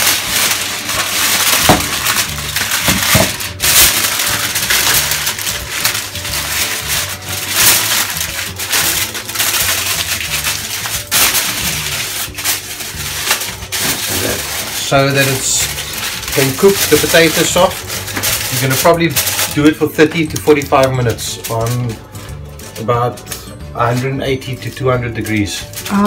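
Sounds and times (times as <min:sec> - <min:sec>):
aluminium foil crinkling: 0:00.0 - 0:26.0.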